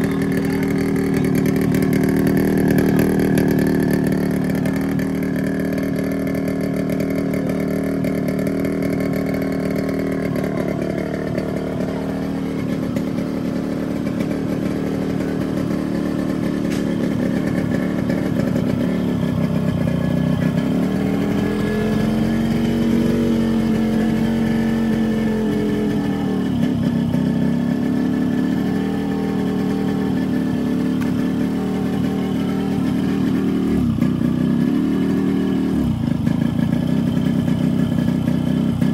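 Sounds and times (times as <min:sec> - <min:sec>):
two-stroke motorcycle engine running: 0:00.0 - 0:38.9.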